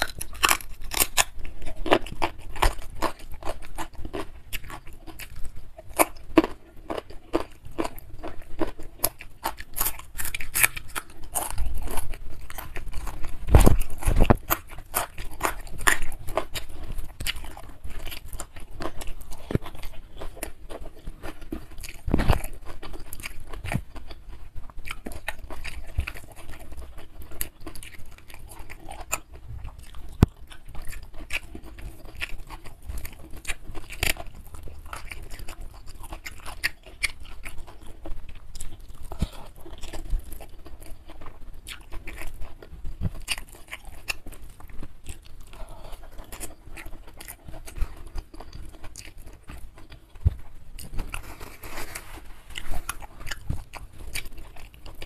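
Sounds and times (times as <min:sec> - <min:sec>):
chewing with wet mouth clicks: 0:00.0 - 0:51.3, 0:52.5 - 0:55.0.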